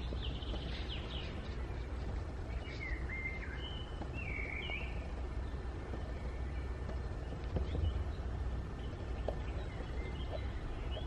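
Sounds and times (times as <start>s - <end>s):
low background rumble: 0.0s - 11.0s
small birds whistling and chirping: 0.0s - 11.0s.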